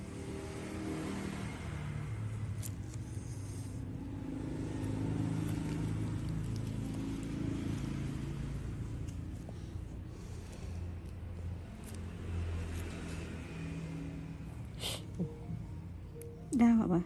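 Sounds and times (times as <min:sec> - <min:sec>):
low motor rumble: 0:01.5 - 0:17.0.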